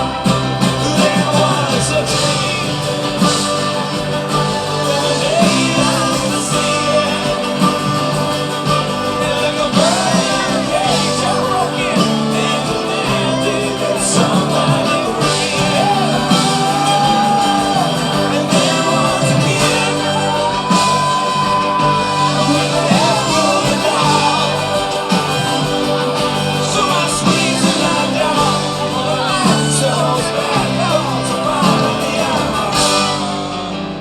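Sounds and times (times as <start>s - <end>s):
lead singer singing: 0.0s - 34.0s
live band playing: 0.0s - 34.0s.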